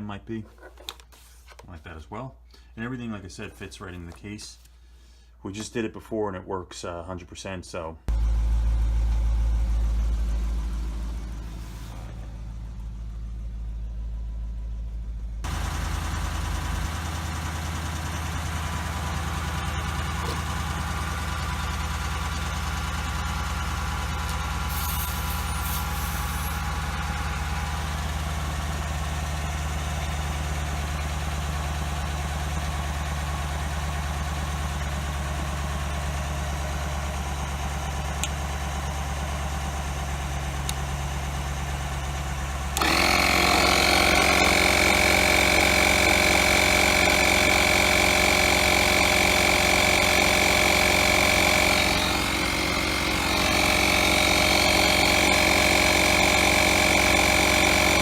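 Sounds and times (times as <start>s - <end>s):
tire inflator compressor whining: 8.1s - 12.9s, 15.4s - 58.0s
car engine idling: 8.1s - 43.0s, 44.2s - 58.0s.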